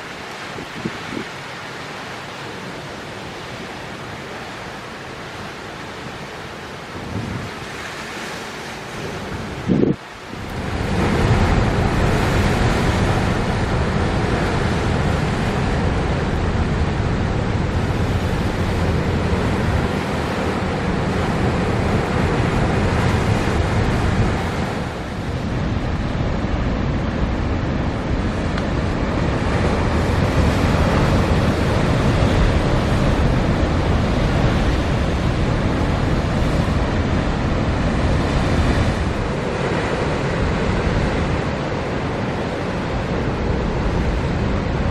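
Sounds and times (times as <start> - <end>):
waves breaking on shore: 0.0 - 44.9
wind buffeting microphone: 6.9 - 44.9.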